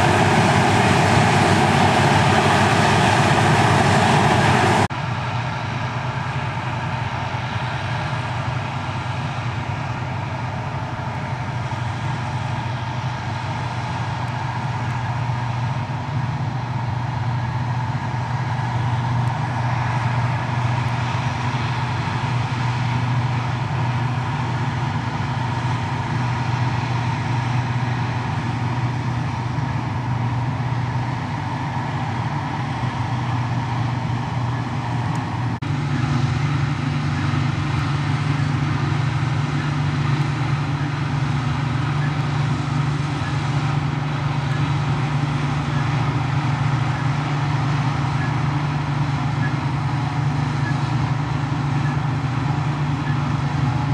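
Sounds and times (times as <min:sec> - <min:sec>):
forage harvester engine and chopper: 0:00.0 - 0:53.9
tractor running: 0:00.0 - 0:53.9.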